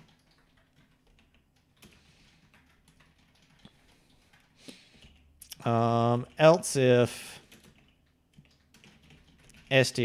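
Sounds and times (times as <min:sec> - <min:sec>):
faint keyboard typing: 0:00.0 - 0:10.0.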